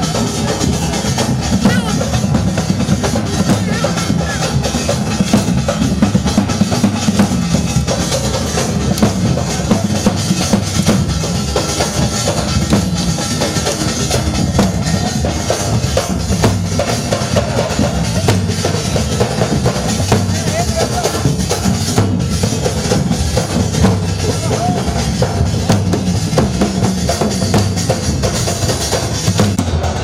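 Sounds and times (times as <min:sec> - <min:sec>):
heavy folk drumming: 0:00.0 - 0:30.0.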